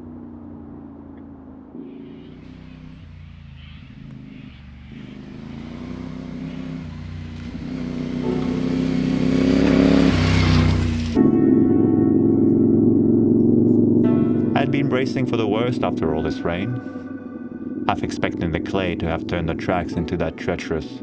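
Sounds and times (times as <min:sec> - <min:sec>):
motorcycle engine accelerating: 0:00.0 - 0:20.4.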